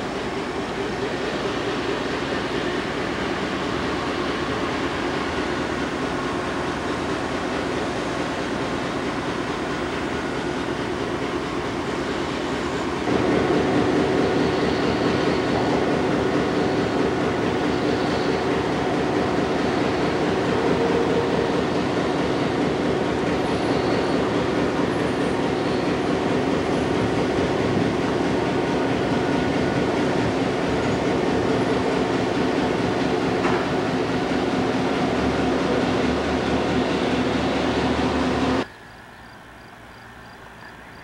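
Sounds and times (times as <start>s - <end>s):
train rumbling past: 0.0s - 41.0s.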